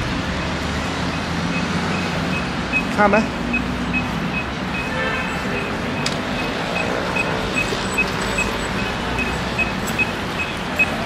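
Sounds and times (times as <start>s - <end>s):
city traffic hum: 0.0s - 11.0s
high-pitched crossing signal beeps: 1.1s - 11.0s.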